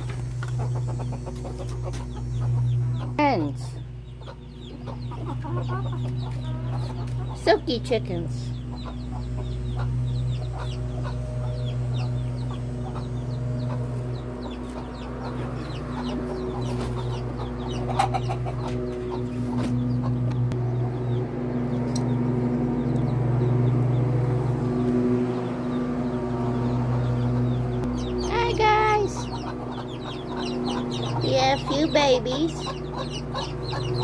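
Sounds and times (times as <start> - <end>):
chickens clucking: 0.0 - 34.0
steady low hum: 0.0 - 34.0.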